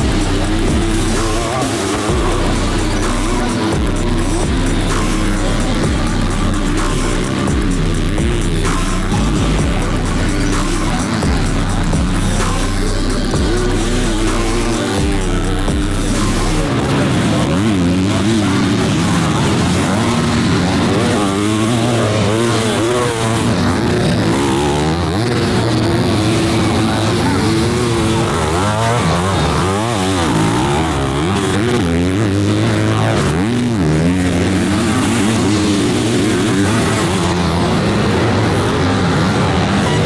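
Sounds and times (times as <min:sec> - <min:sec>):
dirt bike engines revving: 0:00.0 - 0:40.0.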